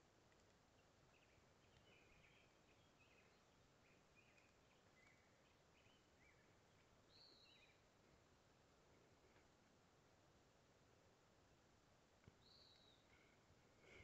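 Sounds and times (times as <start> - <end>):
small birds chirping: 0.0 - 9.8, 12.0 - 14.0.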